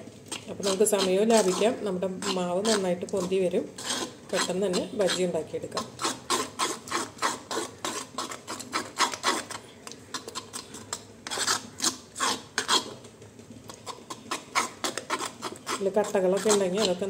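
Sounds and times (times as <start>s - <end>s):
hand mixing thick batter: 0.0s - 17.0s.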